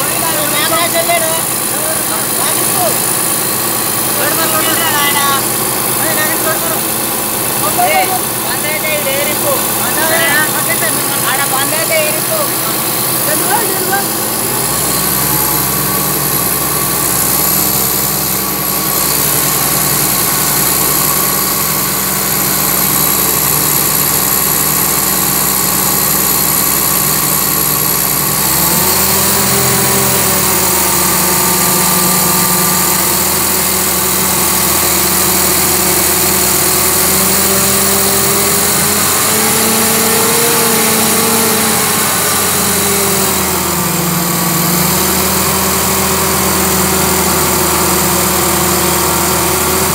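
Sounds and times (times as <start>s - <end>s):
air compressor engine running: 0.0s - 49.9s.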